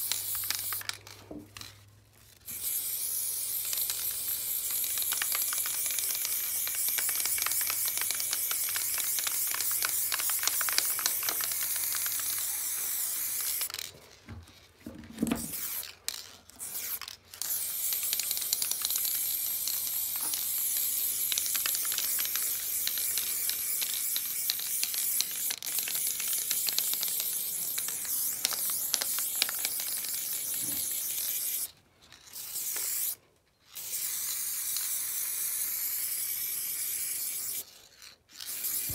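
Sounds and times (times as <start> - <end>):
spray paint can hissing: 0.0 - 13.9, 15.4 - 38.9.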